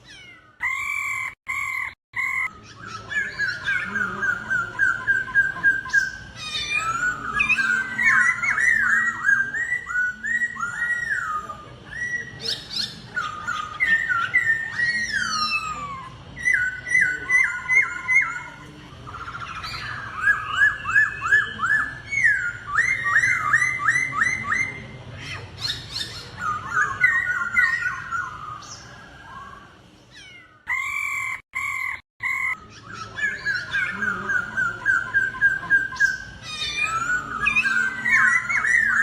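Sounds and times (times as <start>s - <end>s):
bird whistling song: 0.0s - 39.0s.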